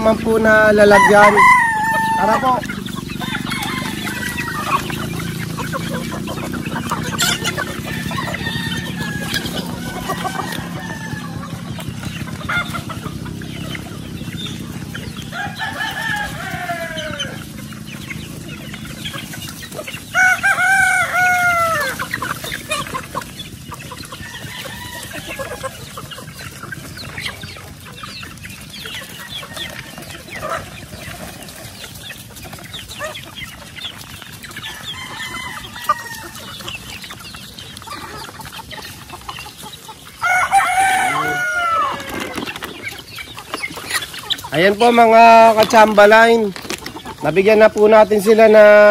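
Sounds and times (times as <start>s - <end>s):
chickens clucking: 0.0s - 48.9s
roosters crowing: 0.0s - 48.9s.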